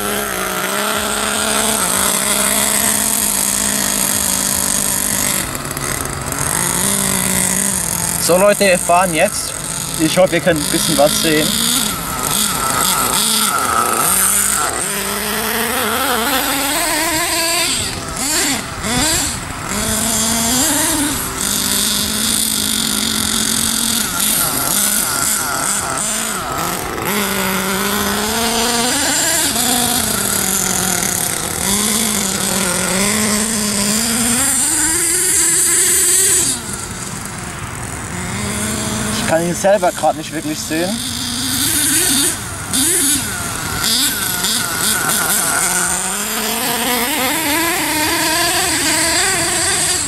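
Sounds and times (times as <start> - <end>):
small two-stroke engine revving: 0.0 - 50.0.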